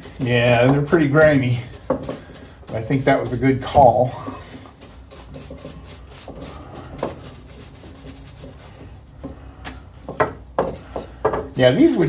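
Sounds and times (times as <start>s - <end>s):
brush scrubbing metal: 0.0s - 9.4s, 10.0s - 12.0s.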